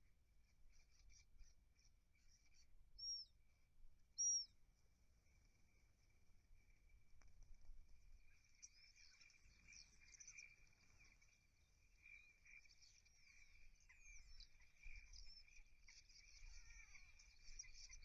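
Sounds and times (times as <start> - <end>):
small birds chirping: 0.6 - 18.0.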